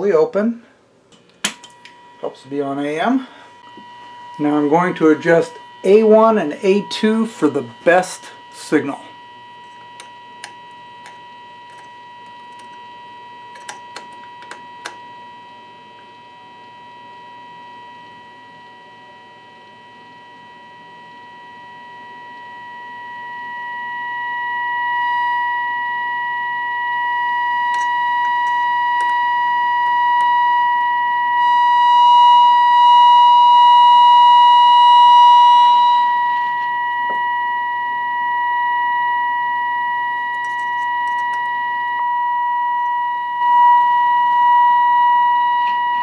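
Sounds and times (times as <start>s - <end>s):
steady test tone from radio: 1.4s - 46.0s.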